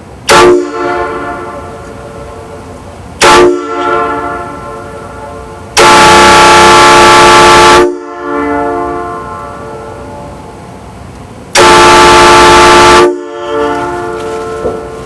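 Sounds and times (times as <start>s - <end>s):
air train horn blasts: 0.3s - 2.5s, 3.2s - 10.4s, 11.5s - 15.0s.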